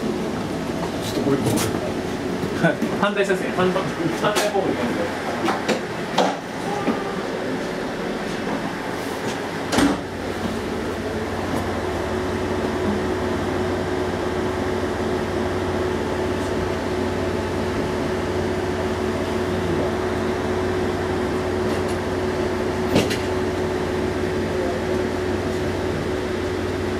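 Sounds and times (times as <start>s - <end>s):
diesel railcar engine idling: 0.0s - 26.9s.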